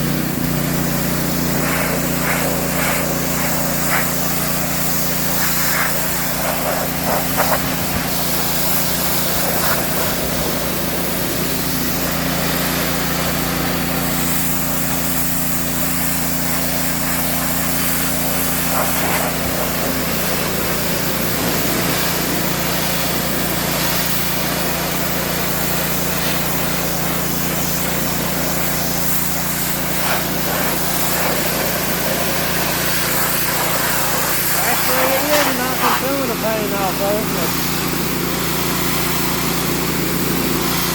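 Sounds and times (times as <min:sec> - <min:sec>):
pressure washer engine running: 0:00.0 - 0:40.9
water jet hissing: 0:00.0 - 0:40.9.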